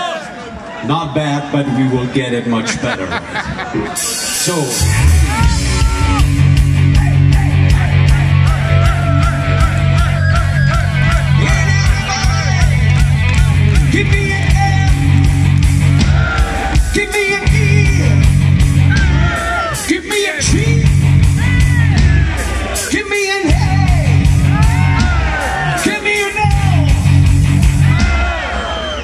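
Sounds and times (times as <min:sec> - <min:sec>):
metal band playing live: 0:03.8 - 0:28.5.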